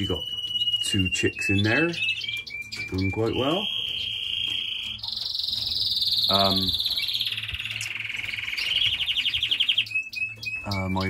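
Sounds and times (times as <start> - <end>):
canary singing trills: 0.0 - 11.0.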